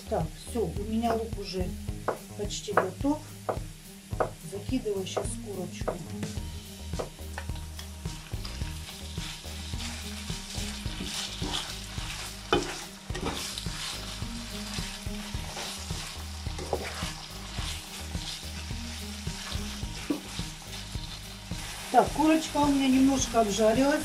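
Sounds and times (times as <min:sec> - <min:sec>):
chicken sizzling in a frying pan: 0:00.0 - 0:24.0
spatula scraping and tapping pan: 0:02.0 - 0:04.4, 0:05.1 - 0:22.7.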